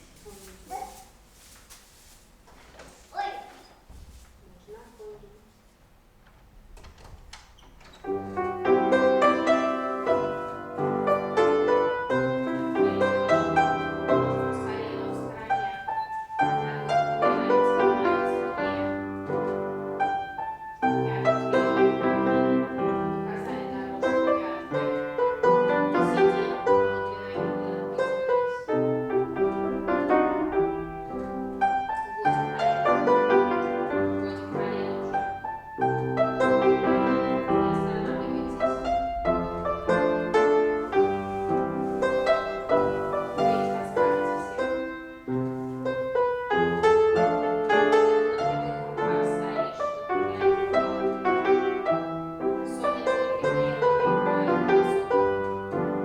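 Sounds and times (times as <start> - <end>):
piano playing chords: 8.1 - 56.0.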